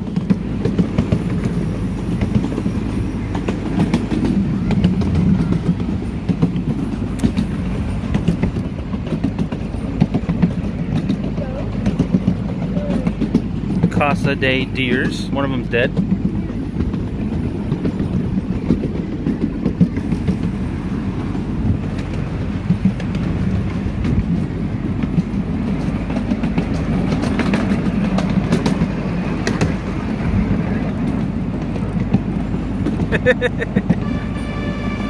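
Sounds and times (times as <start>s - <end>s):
small train rumbling and rattling: 0.0s - 35.0s
train wheel clicks: 0.0s - 35.0s.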